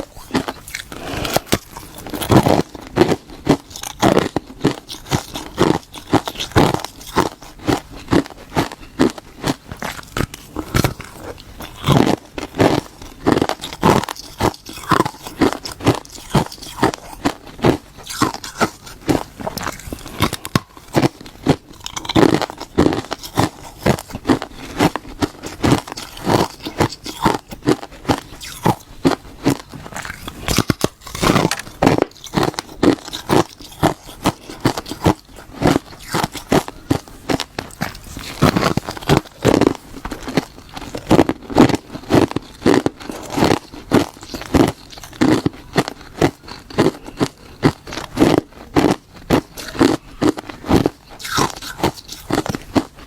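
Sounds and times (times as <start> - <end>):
ice crunching being chewed: 0.0 - 53.0.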